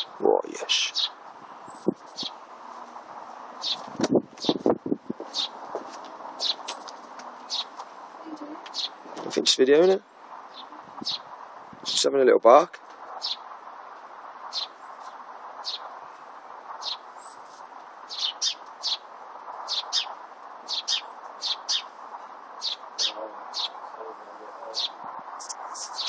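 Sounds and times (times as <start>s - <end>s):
background hiss: 0.0s - 26.0s
small birds chirping: 0.0s - 26.0s.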